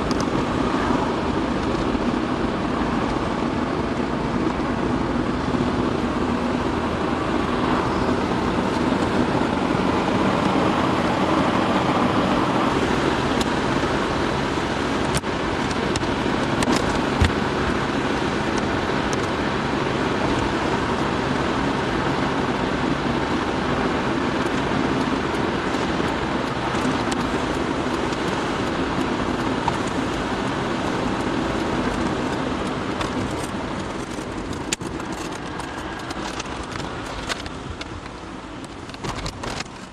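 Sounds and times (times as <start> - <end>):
car engine hum: 0.0 - 39.9
tyres on the road: 0.0 - 39.9.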